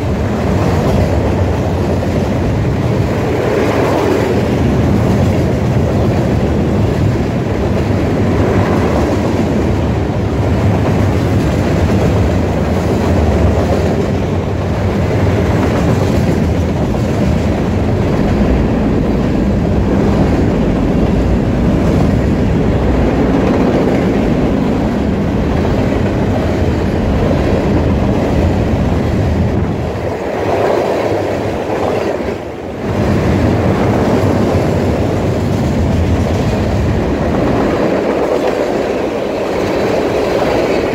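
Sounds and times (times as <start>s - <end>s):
freight train cars rolling past: 0.0s - 40.9s.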